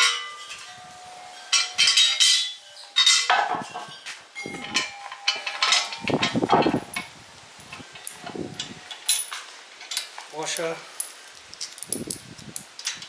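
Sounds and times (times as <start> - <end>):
metal tubes clanking and rattling: 0.0 - 13.0.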